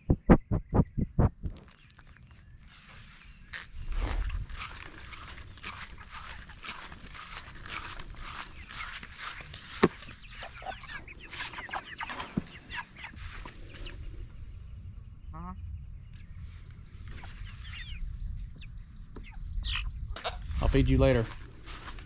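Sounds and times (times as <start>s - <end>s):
chickens peeping and clucking: 1.6s - 22.0s.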